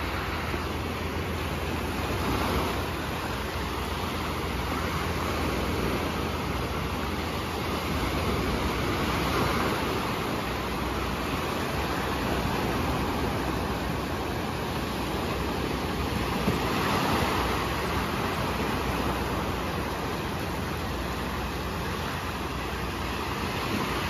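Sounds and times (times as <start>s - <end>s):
small waves washing up sand: 0.0s - 24.0s.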